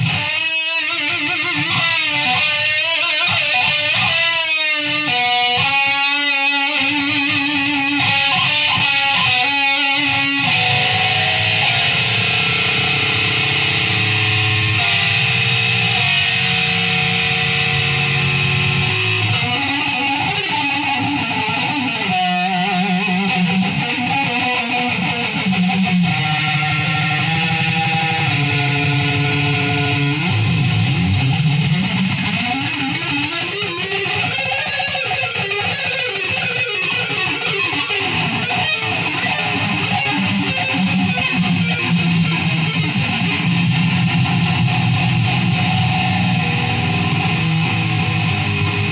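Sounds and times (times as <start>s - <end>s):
electric guitar notes and chords: 0.0s - 48.9s.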